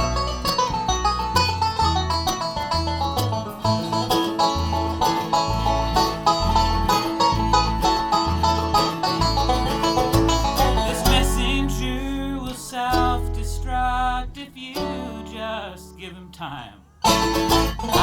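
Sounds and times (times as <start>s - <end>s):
plucked-string picking: 0.0s - 16.3s, 17.0s - 18.0s
bass line: 0.0s - 18.0s.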